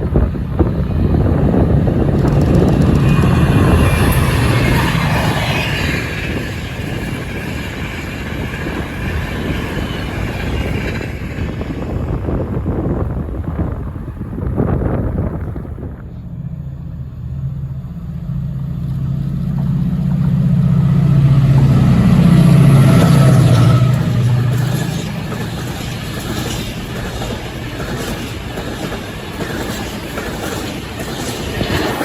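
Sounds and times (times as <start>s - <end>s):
train wheels clattering on track: 0.0s - 13.7s, 18.8s - 32.0s
diesel locomotive engine passing: 0.0s - 32.0s.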